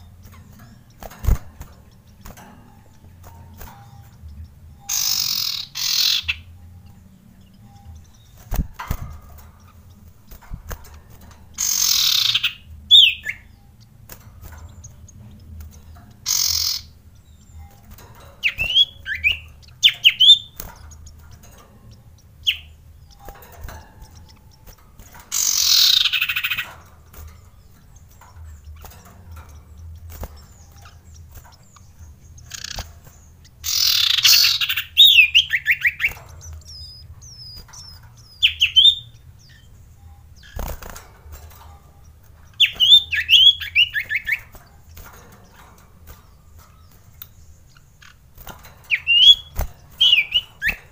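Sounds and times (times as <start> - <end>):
bird chirping: 0.0 - 50.9.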